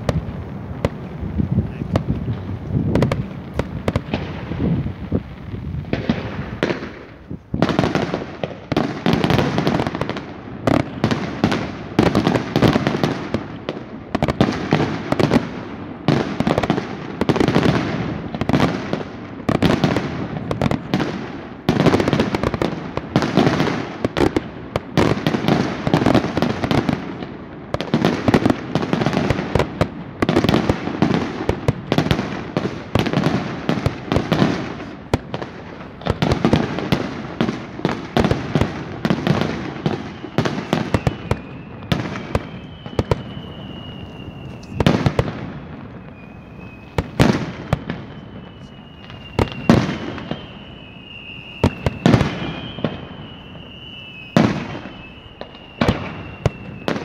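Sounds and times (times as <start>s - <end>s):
fireworks bangs and cracks: 0.0s - 57.0s.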